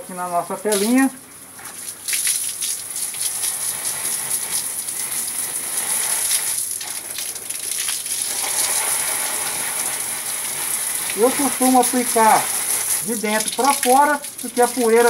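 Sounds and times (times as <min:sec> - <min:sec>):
hose water spraying on filter: 0:00.7 - 0:15.0
water splashing on ground: 0:00.7 - 0:15.0.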